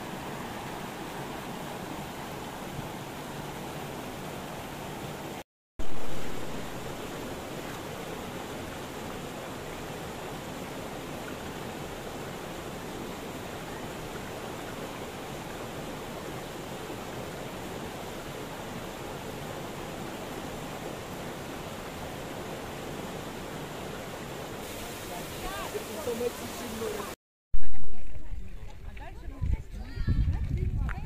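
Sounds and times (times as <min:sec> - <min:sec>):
stream running over rocks: 0:00.0 - 0:27.2.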